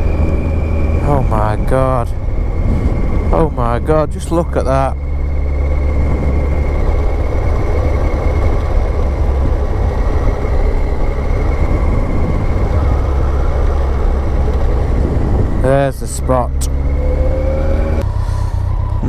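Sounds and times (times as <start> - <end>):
motorcycle engine rumble: 0.0 - 19.0
wind rush at helmet: 0.0 - 19.0.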